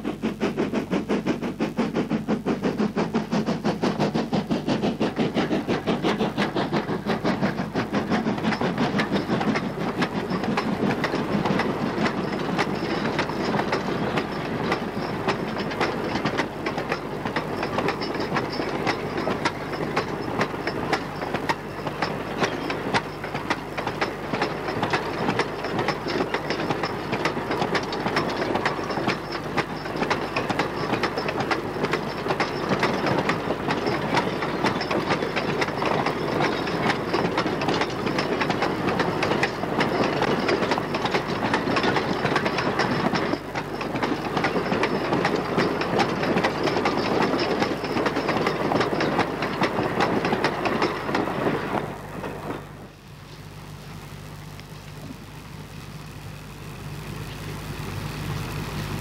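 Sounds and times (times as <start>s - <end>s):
train wheels clicking over rail joints: 0.0s - 53.0s
wagons rumbling and rattling: 0.0s - 54.2s.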